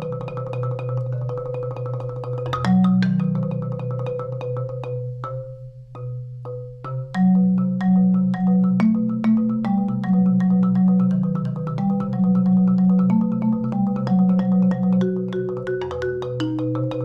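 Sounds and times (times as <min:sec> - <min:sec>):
low marimba bass notes: 0:00.0 - 0:17.0
marimba quick notes: 0:00.0 - 0:17.0.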